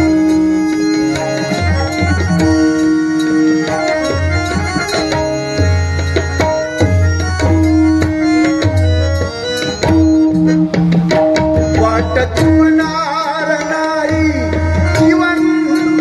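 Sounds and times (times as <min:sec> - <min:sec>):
hand drum rhythm: 0:00.0 - 0:16.0
harmonium melody: 0:00.0 - 0:16.0.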